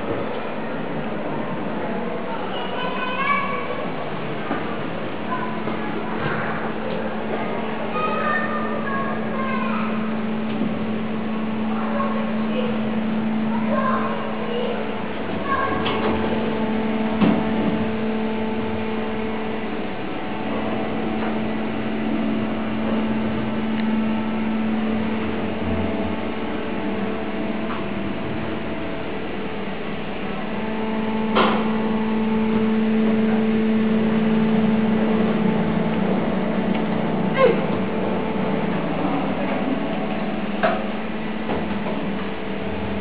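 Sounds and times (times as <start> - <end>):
elevator low hum: 0.0 - 43.0.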